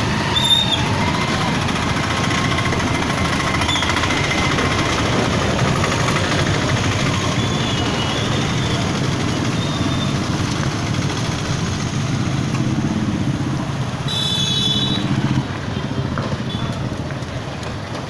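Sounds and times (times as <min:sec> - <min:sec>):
motorcycle engine idling: 0:00.0 - 0:17.8.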